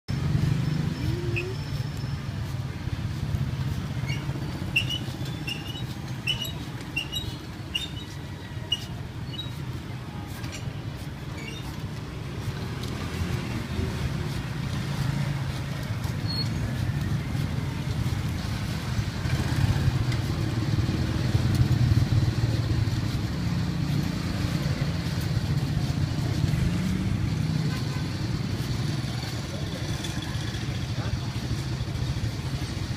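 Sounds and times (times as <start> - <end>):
traffic engine drone: 0.1 - 32.9.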